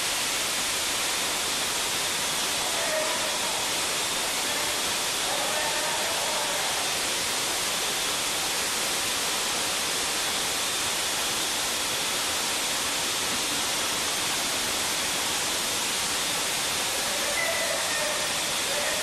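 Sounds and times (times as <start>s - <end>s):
hose water spray hissing: 0.0s - 19.0s.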